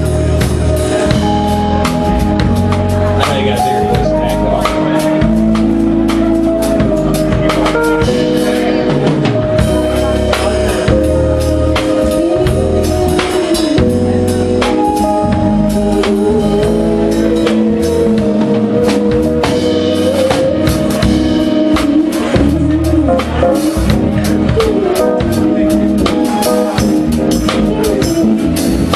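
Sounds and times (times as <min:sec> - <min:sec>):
live band playing: 0:00.0 - 0:28.9.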